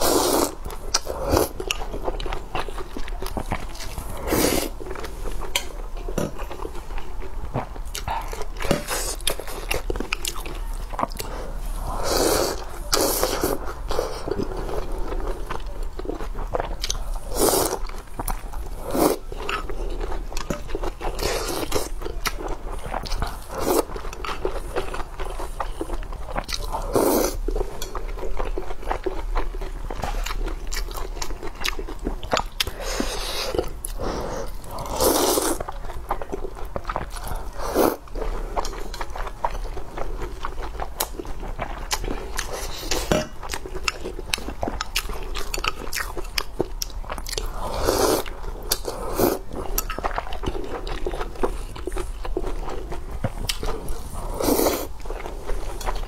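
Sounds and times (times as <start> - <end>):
close chewing and biting: 0.0 - 56.0.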